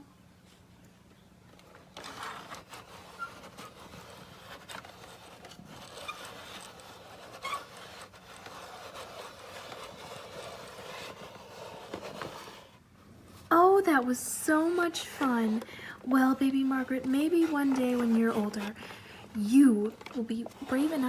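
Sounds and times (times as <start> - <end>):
plastic scraping on cable: 1.5 - 12.8, 14.0 - 21.0.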